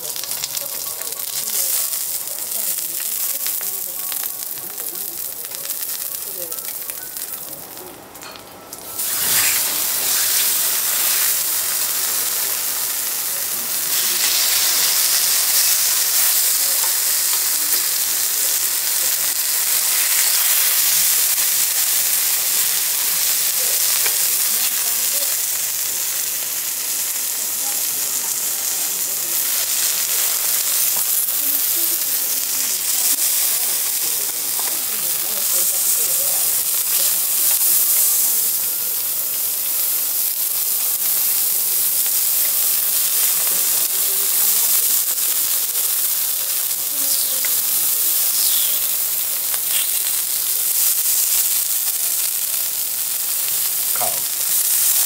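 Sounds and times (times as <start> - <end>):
steak sizzling on griddle: 0.0 - 55.0.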